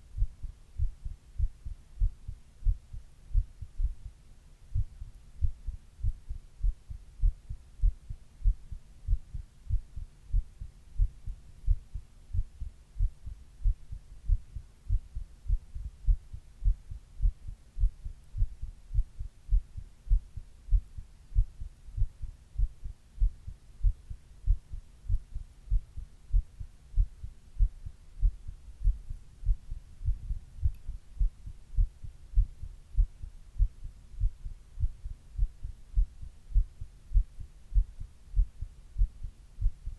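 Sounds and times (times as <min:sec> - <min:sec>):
heartbeat thuds: 0:00.2 - 0:39.9.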